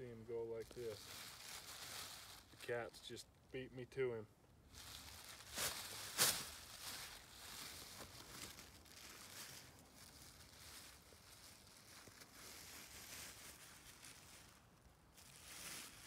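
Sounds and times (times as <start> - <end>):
plastic bag crinkling: 0.6 - 2.7, 4.7 - 16.0.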